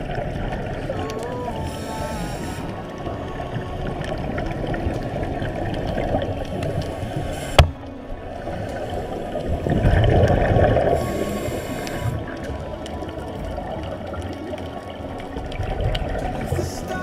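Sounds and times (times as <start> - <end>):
faint underwater clicks: 0.0 - 17.0
muffled underwater hiss: 0.0 - 17.0
rush of water: 0.0 - 17.0.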